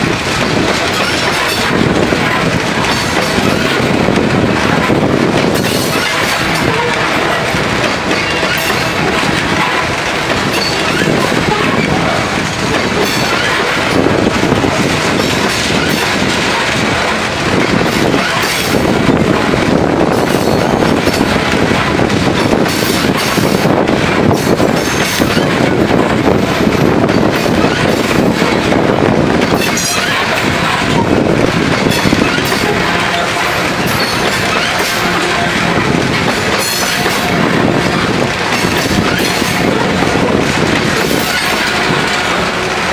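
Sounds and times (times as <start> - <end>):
train wheels rumbling on rail: 0.0 - 42.9
wheels clicking over rail joints: 0.0 - 42.9.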